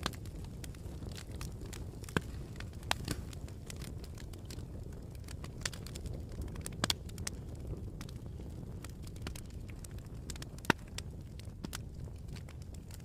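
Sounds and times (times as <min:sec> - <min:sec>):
campfire flames rumbling: 0:00.0 - 0:13.0
fire crackling and popping: 0:00.0 - 0:13.0.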